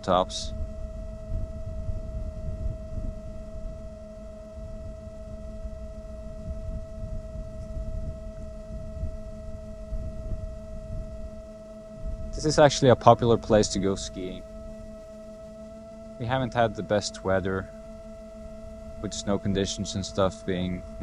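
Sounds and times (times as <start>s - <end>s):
electronic whine: 0.0s - 21.0s
low uneven rumble: 0.0s - 21.0s.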